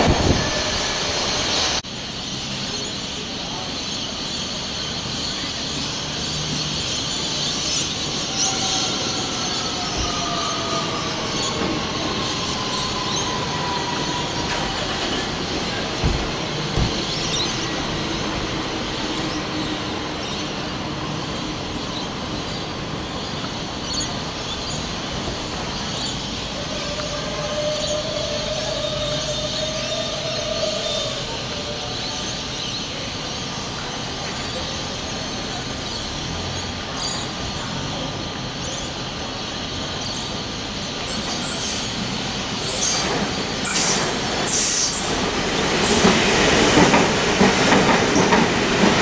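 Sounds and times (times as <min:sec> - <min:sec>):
electric train whine: 0:00.0 - 0:49.0
train wheels rumbling on rail: 0:00.0 - 0:49.0.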